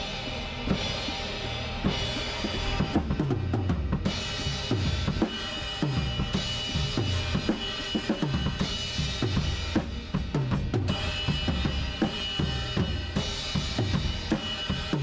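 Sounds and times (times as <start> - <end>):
acoustic drum kit groove: 0.0 - 15.0.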